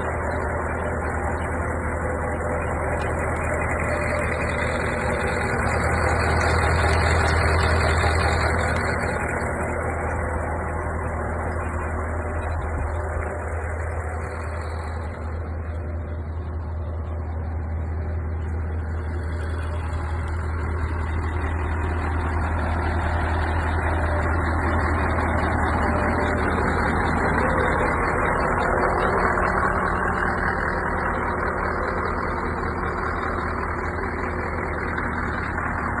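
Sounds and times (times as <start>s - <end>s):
truck diesel engine running: 0.0s - 36.0s.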